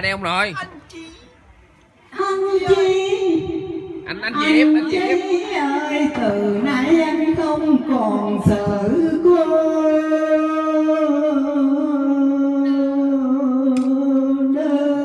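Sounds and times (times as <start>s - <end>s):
woman singing into microphone: 2.1s - 15.0s.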